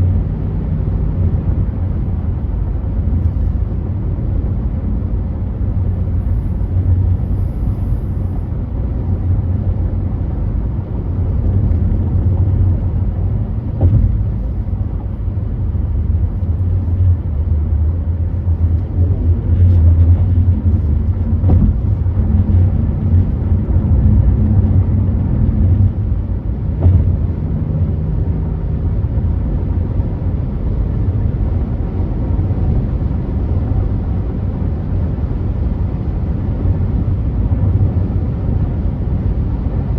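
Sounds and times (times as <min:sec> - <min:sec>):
car tyres and engine rumbling: 0:00.0 - 0:39.9.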